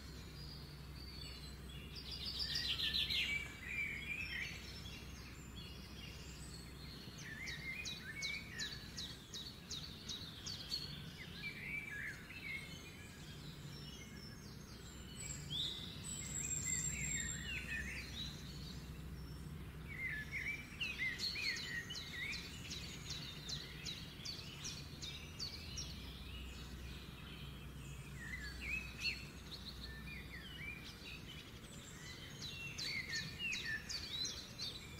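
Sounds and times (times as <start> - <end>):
birds chirping and trilling: 0.0 - 34.9
low steady hum: 0.0 - 34.9.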